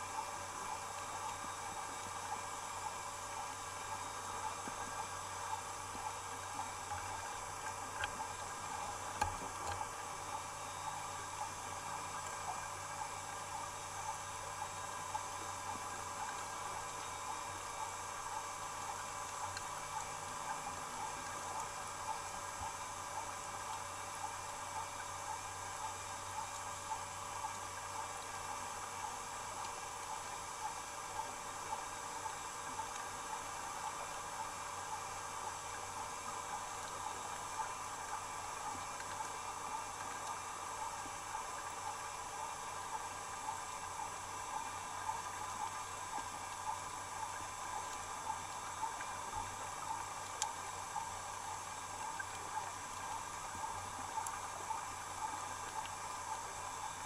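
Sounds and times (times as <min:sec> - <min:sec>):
thin steady tones: 0:00.0 - 0:57.0.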